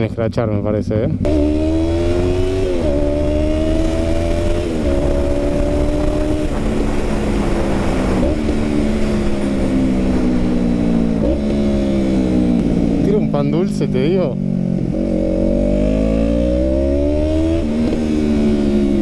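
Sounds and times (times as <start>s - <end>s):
motorcycle engine running: 0.4s - 19.0s.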